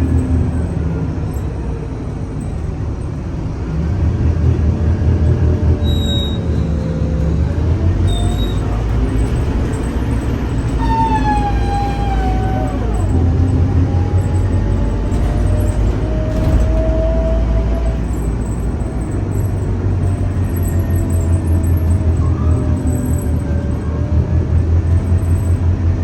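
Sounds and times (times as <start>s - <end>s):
bus engine low drone: 0.0s - 26.0s.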